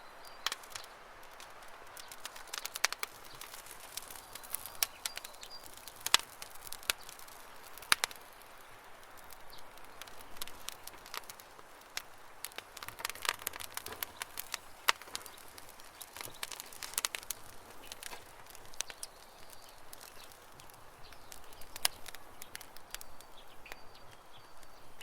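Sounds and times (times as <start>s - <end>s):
campfire crackling: 0.0s - 25.0s
faint birds chirping: 0.0s - 25.0s.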